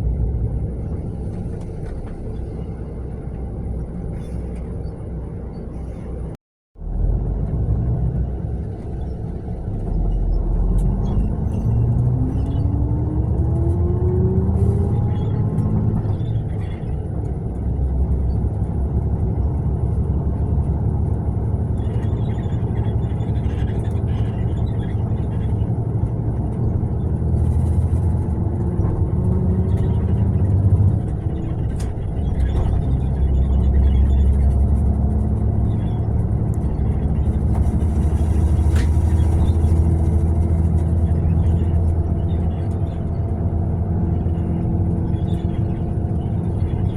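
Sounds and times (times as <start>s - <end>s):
road rumble: 0.0s - 46.9s
coach engine: 6.8s - 46.9s.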